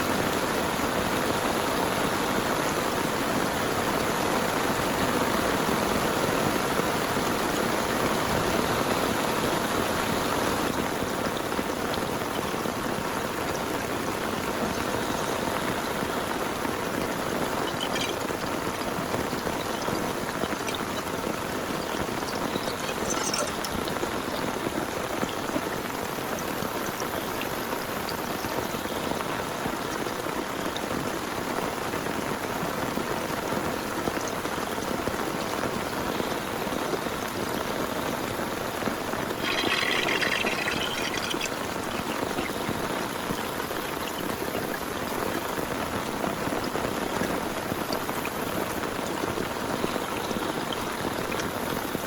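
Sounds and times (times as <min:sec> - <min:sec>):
heavy rain hissing: 0:00.0 - 0:52.0.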